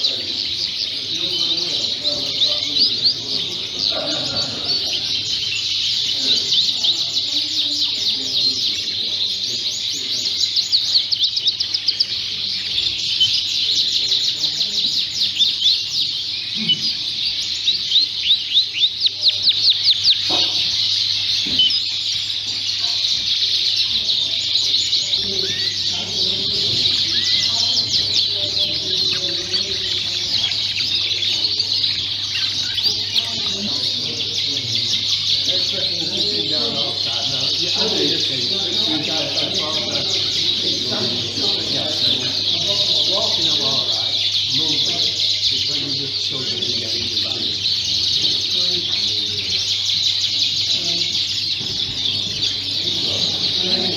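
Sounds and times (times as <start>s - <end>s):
canaries singing in chorus: 0.0s - 53.9s.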